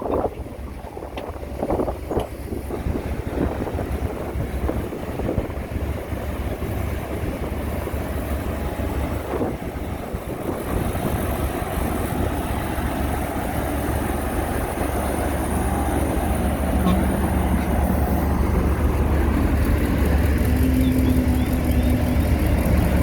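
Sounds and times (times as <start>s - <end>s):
diesel engine running: 0.0s - 23.0s
wind on microphone: 0.0s - 23.0s.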